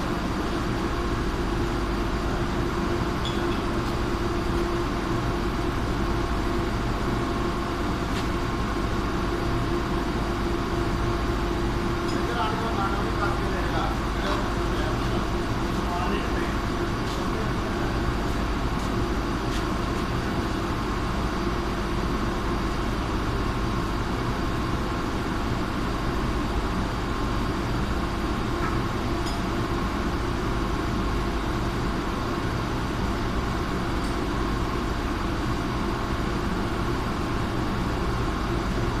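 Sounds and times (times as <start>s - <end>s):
chiller machinery hum: 0.0s - 39.0s.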